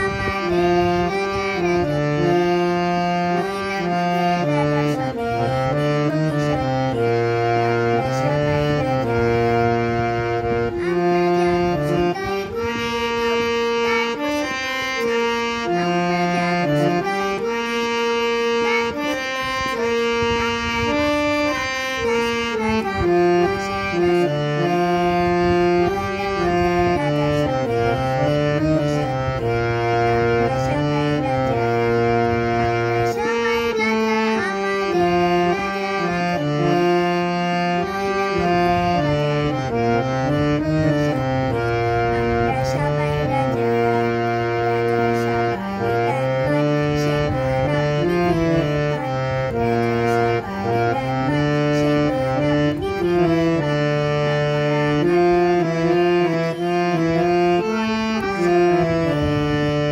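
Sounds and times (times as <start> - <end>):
girl singing: 0.0 - 59.9
harmonium melody: 0.0 - 59.9.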